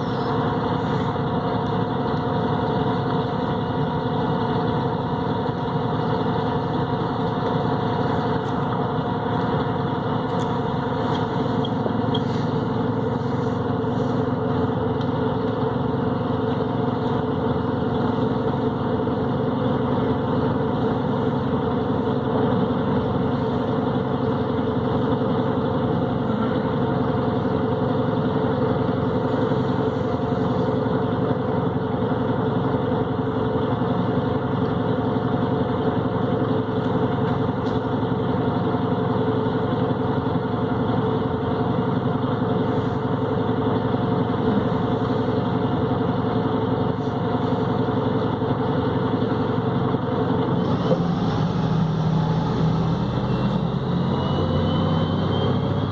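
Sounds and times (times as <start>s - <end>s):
bus diesel engine humming: 0.0s - 55.9s.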